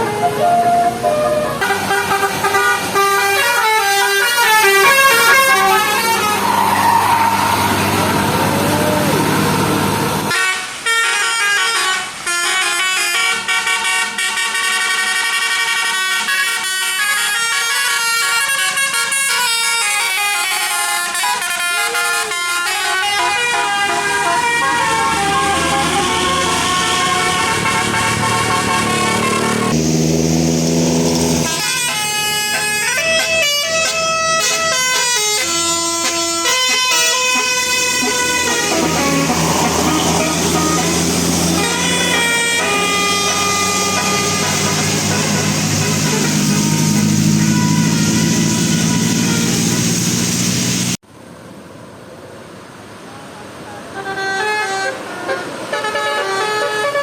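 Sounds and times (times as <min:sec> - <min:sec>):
air horn playing a melody: 0:00.0 - 0:50.4, 0:54.0 - 0:57.0.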